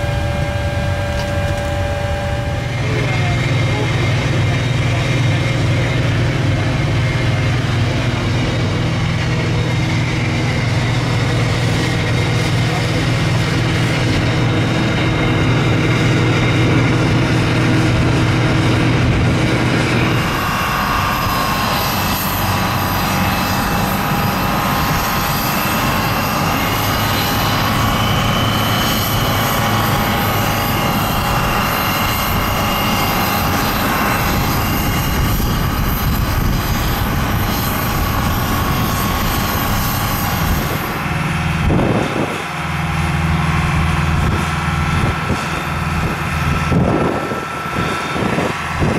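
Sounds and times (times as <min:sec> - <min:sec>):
aircraft turbine whine: 0:00.0 - 0:48.9
low engine hum: 0:00.0 - 0:48.9
truck engine: 0:00.0 - 0:48.9.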